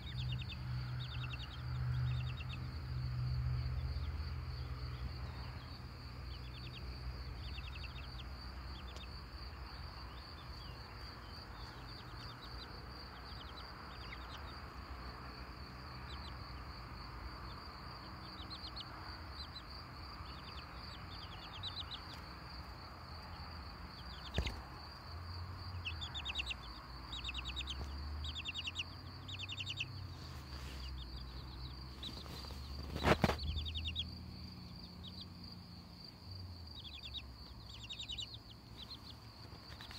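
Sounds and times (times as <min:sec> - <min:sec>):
chicks cheeping: 0:00.0 - 0:02.8, 0:04.8 - 0:39.9.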